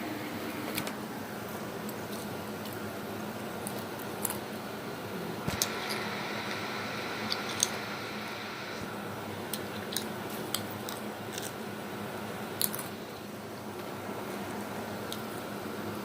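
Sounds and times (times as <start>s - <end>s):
steady low background hum: 0.0s - 16.0s.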